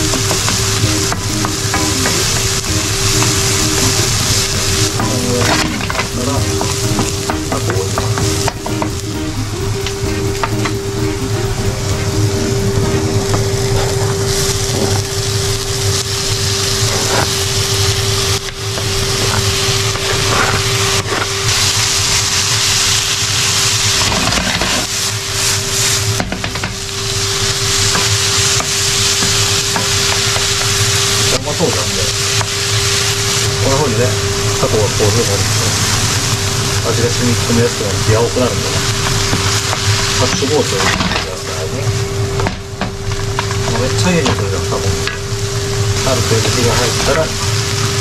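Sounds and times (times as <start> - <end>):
food sizzling in a frying pan: 0.0 - 48.0.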